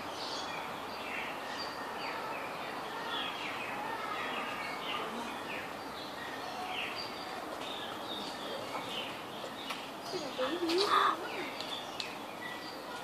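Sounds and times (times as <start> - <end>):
birds chirping: 0.0 - 13.0
steady background hiss: 0.0 - 13.0.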